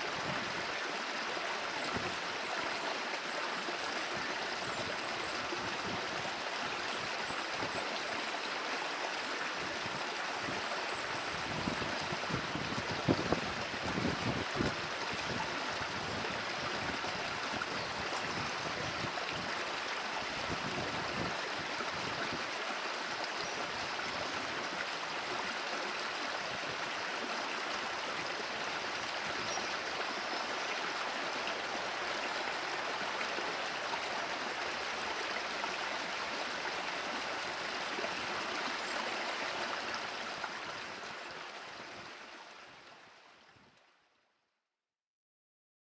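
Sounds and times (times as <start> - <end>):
stream water rushing: 0.0 - 43.5.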